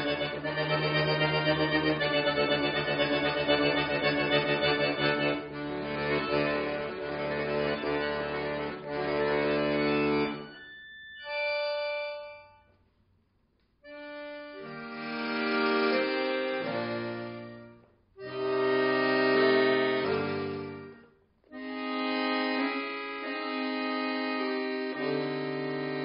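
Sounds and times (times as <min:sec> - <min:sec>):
accordion playing chords: 0:00.0 - 0:12.8, 0:13.8 - 0:26.0.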